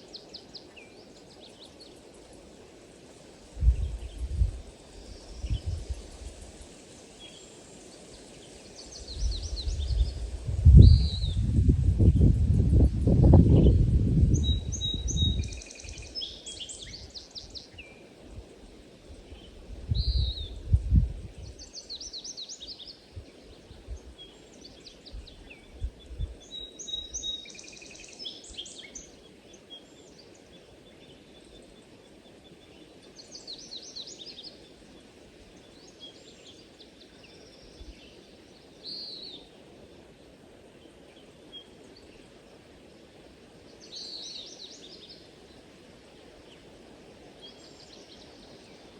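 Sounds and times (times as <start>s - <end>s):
faint steady hiss: 0.0s - 48.9s
songbirds singing: 0.0s - 48.9s.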